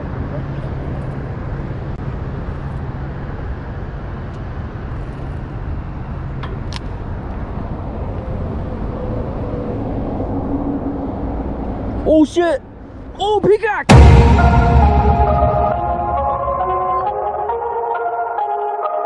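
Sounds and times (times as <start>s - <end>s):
highway traffic noise: 0.0s - 18.3s.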